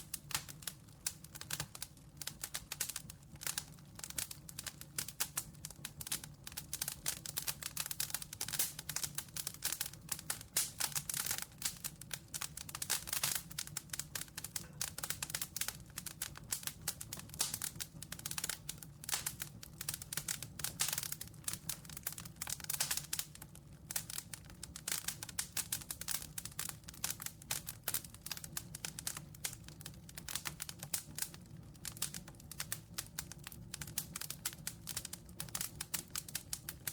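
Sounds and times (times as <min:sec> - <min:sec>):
campfire crackling: 0:00.0 - 0:36.9
low rumble of flames: 0:00.0 - 0:36.9.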